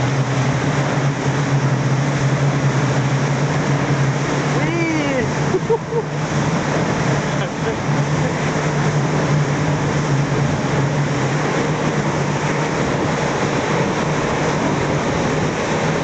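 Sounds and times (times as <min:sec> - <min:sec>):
outboard motor droning: 0:00.0 - 0:16.0
water rushing: 0:00.0 - 0:16.0
wind: 0:00.0 - 0:16.0.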